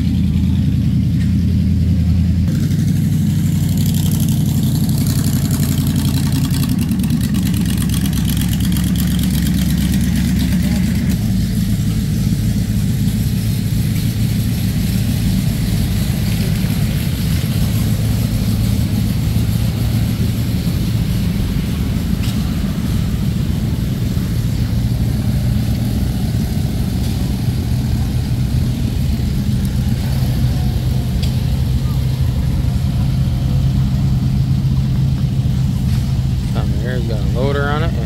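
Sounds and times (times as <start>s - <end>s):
engine droning steadily: 0.0s - 38.0s.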